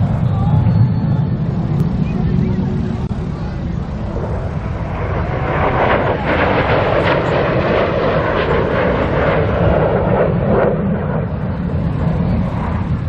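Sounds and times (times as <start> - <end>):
fighter jets flying past: 0.0 - 13.0.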